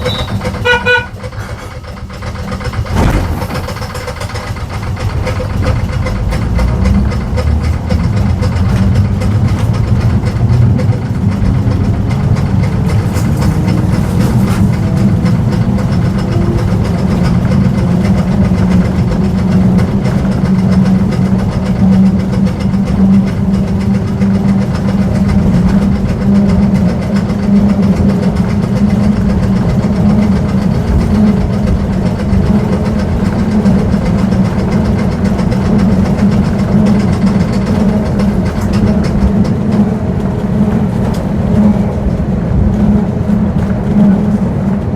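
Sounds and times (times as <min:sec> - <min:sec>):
constant hum: 0:00.0 - 0:44.9
tram rumbling: 0:00.0 - 0:44.9.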